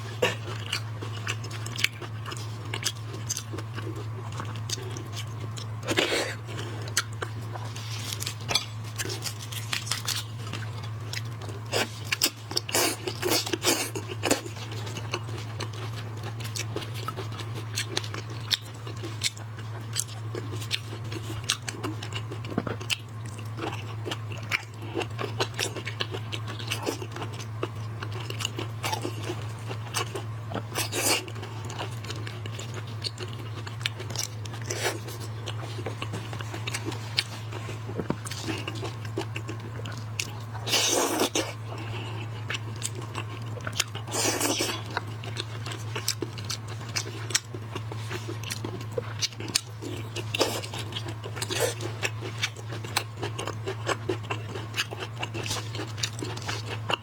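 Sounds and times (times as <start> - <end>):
crunching and chewing shrimp: 0.0 - 57.0
steady low hum: 0.0 - 57.0.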